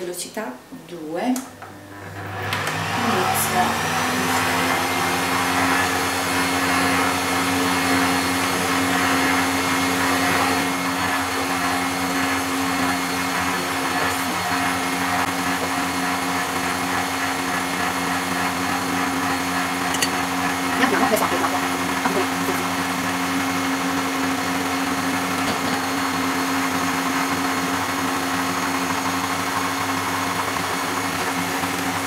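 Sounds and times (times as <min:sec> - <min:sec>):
stand mixer motor hum: 0:01.5 - 0:32.0.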